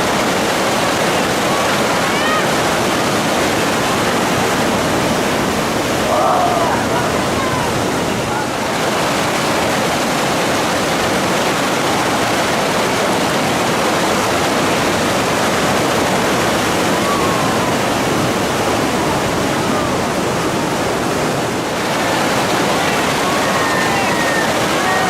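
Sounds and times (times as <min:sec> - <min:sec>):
river whitewater rushing: 0:00.0 - 0:25.0.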